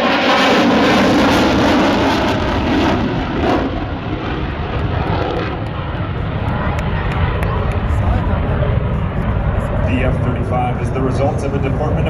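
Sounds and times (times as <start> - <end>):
fighter jet flying past: 0.0 - 12.0.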